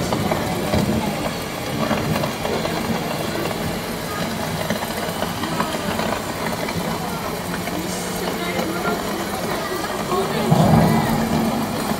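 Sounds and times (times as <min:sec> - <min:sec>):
artificial rain spraying: 0:00.0 - 0:11.9
faint voices of onlookers: 0:00.0 - 0:11.9.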